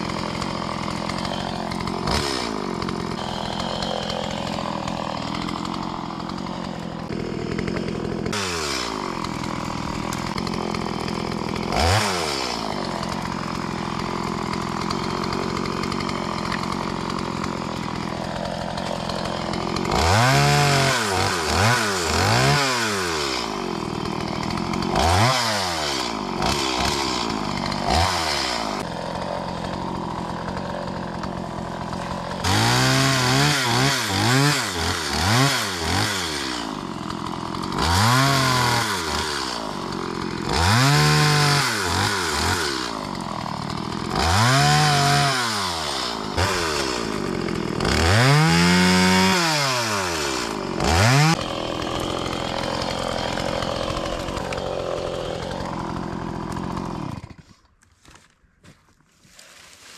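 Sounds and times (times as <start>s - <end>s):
chainsaw engine revving: 0.0s - 57.8s.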